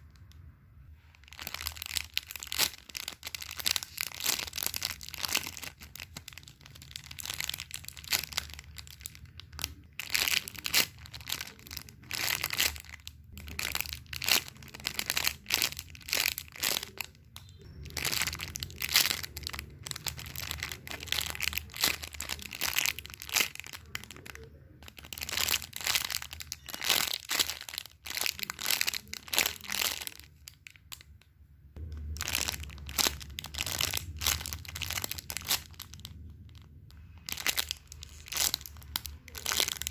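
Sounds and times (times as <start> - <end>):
crinkling and crunching: 0.0 - 31.2, 31.8 - 39.9.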